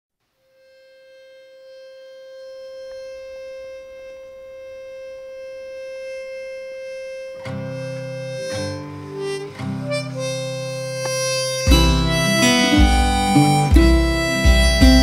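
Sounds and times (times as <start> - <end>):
harmonica chords: 0.3 - 15.0
held instrumental note: 0.6 - 15.0.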